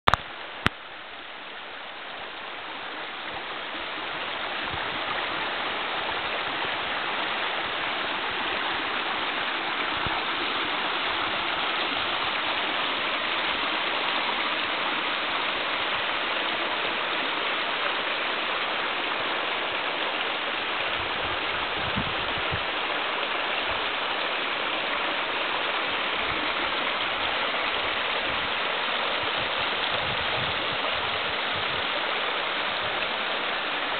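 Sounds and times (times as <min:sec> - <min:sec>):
creek trickling over rocks: 0:00.1 - 0:33.9.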